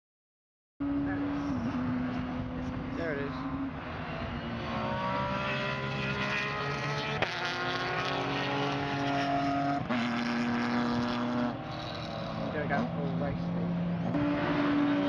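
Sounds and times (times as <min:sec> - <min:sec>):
race car engine accelerating: 0:00.8 - 0:15.0.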